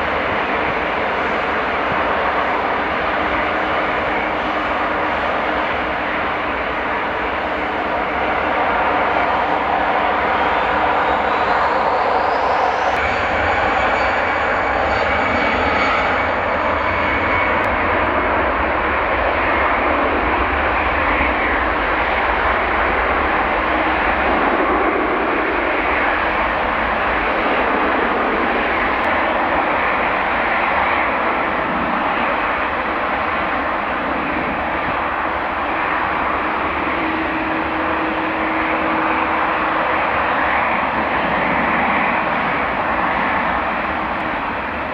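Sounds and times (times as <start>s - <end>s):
airliner engines running: 0.0s - 44.9s.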